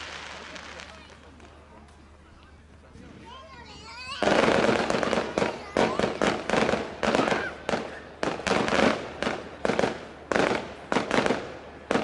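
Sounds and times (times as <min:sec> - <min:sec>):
fireworks banging: 0:00.0 - 0:01.9, 0:04.1 - 0:12.0.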